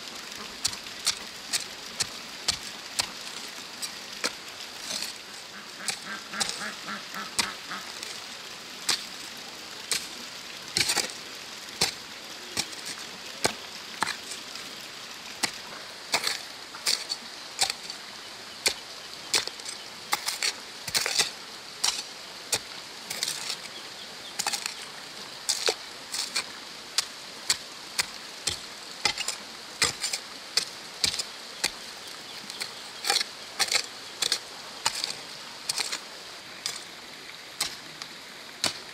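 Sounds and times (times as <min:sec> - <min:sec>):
hoe chopping stony soil: 0:00.0 - 0:09.2, 0:09.9 - 0:11.2, 0:11.8 - 0:14.5, 0:15.4 - 0:37.0, 0:37.6 - 0:38.9.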